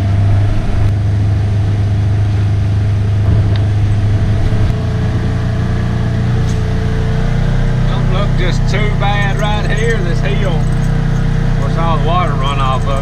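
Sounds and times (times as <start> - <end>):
vehicle engine humming while driving: 0.0 - 13.0.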